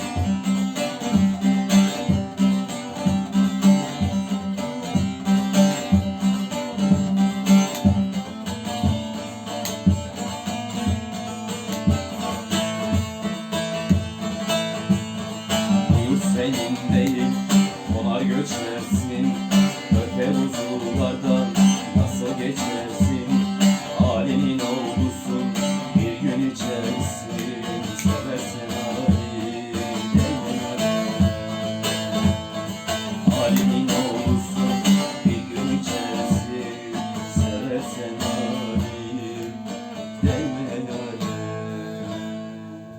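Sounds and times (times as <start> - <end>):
strummed plucked string instrument: 0.0 - 42.9.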